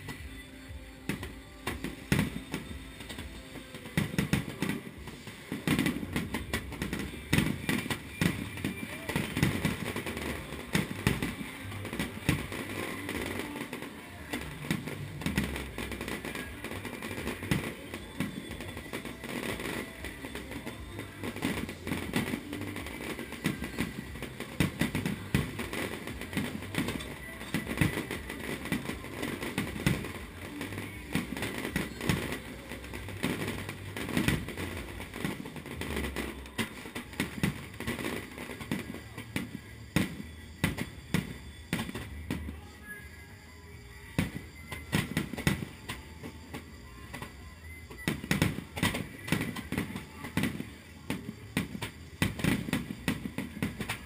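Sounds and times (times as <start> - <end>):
fireworks bangs and crackles: 0.0 - 43.2, 44.0 - 54.0.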